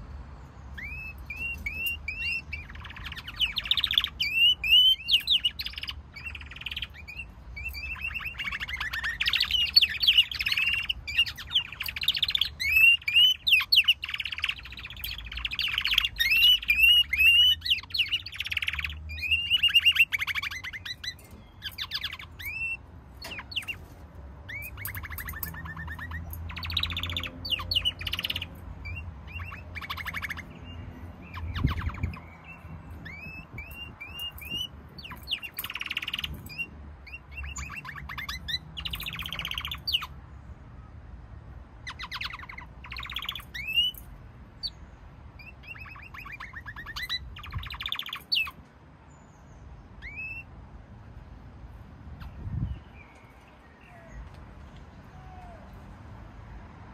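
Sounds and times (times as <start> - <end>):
canaries singing trills: 0.0 - 56.9.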